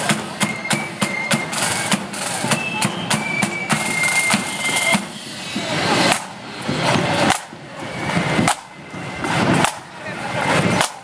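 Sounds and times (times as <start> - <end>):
side drums rattling beat: 0.0 - 11.0.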